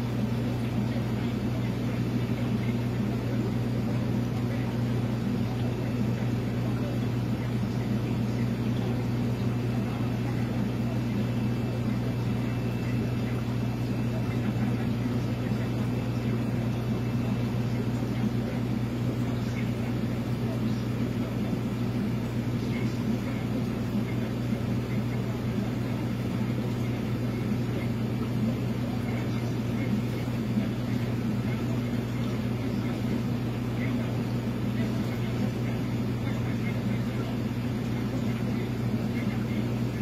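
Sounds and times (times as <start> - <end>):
aquarium pumps humming: 0.0 - 40.0.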